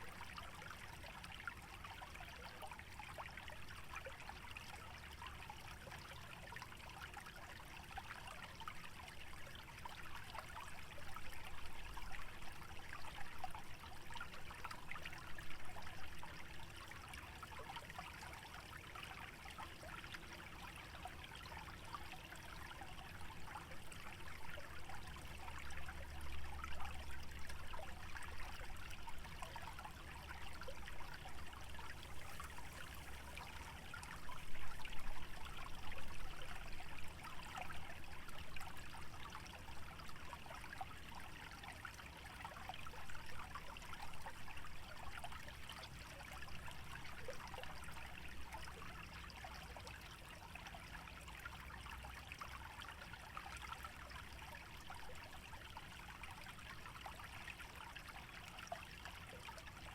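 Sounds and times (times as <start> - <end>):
stream trickling and bubbling: 0.0 - 59.9.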